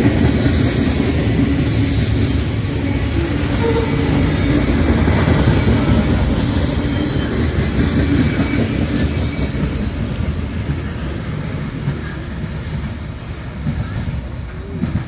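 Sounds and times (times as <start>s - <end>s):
train rumbling over rails: 0.0s - 15.0s.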